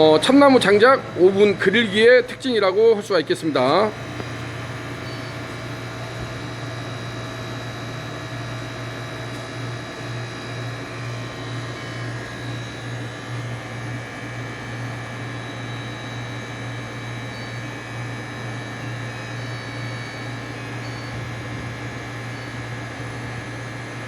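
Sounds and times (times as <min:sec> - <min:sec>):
fans and motors humming: 0:00.0 - 0:24.0.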